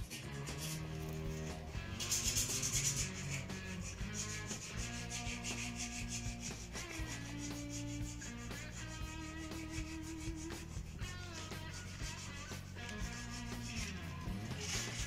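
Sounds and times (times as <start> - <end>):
background music: 0.0 - 15.0
file rasping on metal: 0.0 - 15.0.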